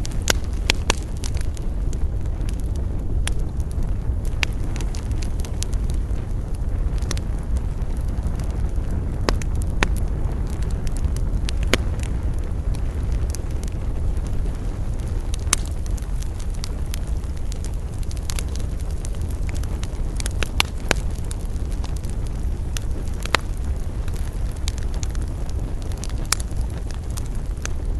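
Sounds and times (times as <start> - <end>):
campfire burning and crackling: 0.0 - 27.9.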